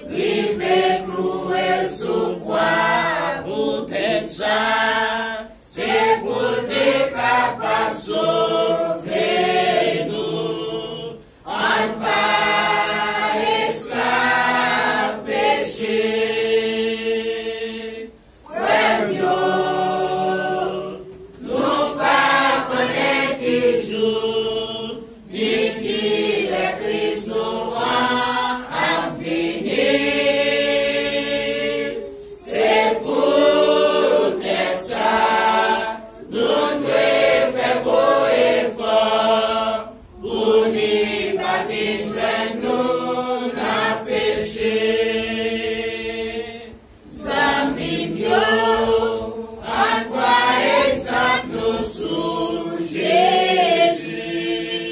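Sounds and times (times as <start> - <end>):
congregation singing a hymn: 0.0 - 54.9.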